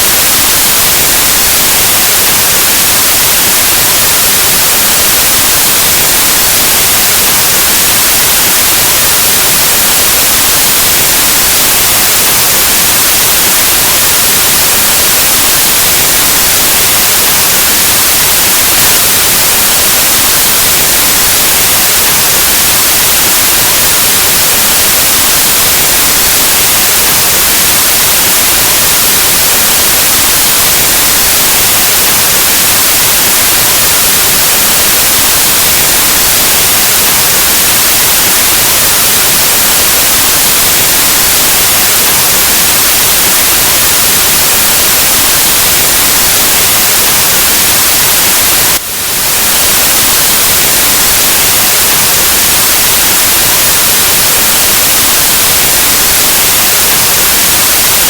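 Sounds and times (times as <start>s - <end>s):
static hiss: 0.0s - 58.0s.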